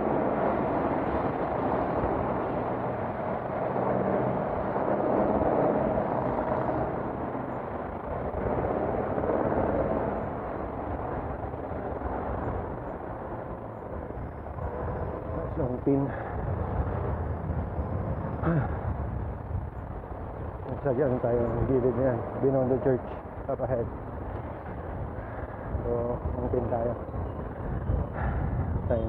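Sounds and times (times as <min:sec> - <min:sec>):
wind and road noise from bicycle: 0:00.0 - 0:29.0.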